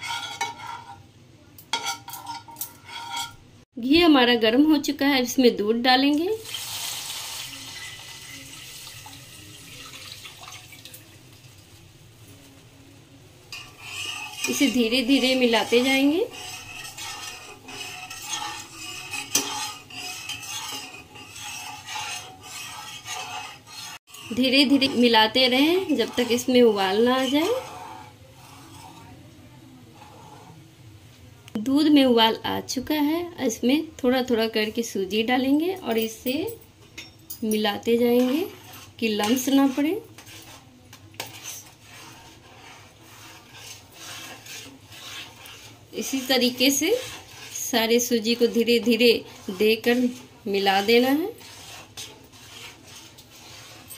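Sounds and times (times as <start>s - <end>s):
metal spatula scraping a pan: 0.0s - 3.6s, 6.4s - 10.4s, 13.4s - 30.7s, 34.8s - 53.9s.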